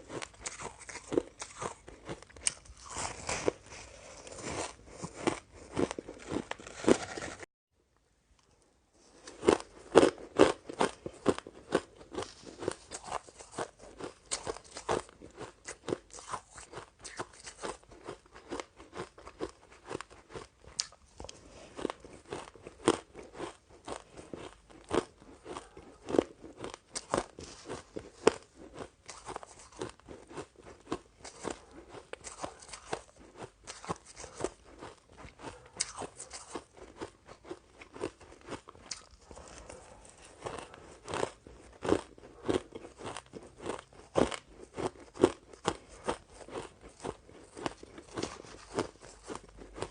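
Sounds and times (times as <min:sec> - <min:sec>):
person chewing crunchy ice: 0:00.0 - 0:07.5, 0:09.0 - 0:49.9.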